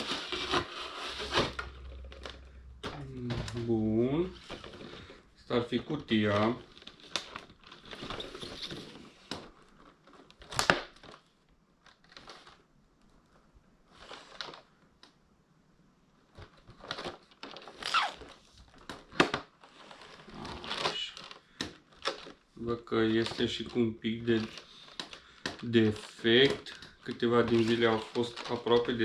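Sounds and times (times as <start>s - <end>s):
cardboard packaging rustling: 0.0s - 12.7s, 13.9s - 14.8s, 16.3s - 29.0s.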